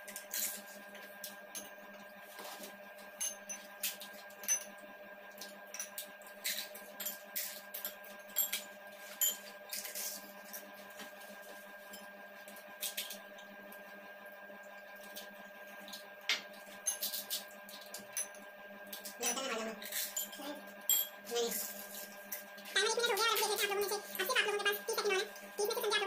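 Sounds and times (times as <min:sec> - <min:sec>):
faint background hum: 0:00.0 - 0:26.0.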